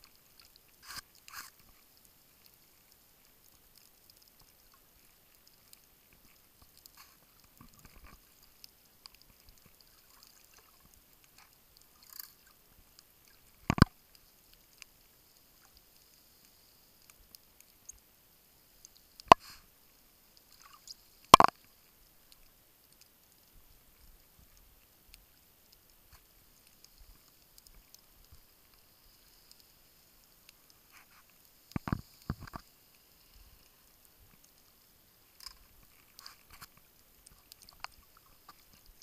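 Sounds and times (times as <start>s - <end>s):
faint underwater crackling: 0.0s - 39.0s.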